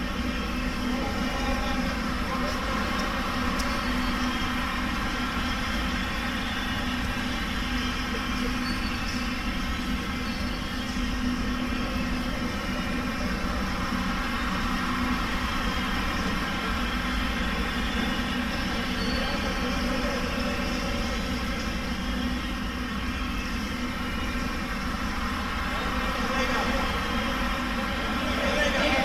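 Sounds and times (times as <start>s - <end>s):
sports hall background hum: 0.0s - 29.0s.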